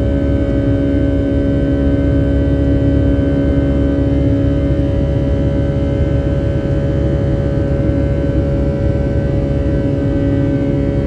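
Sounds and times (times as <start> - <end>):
humming tones droning: 0.0 - 11.0.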